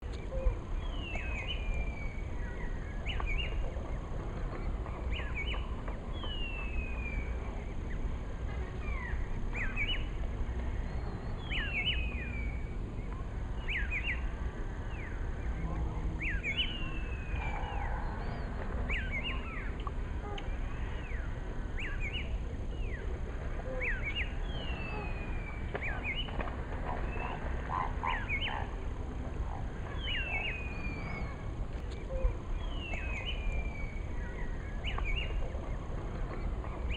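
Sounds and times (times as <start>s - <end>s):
low rumble: 0.0s - 36.9s.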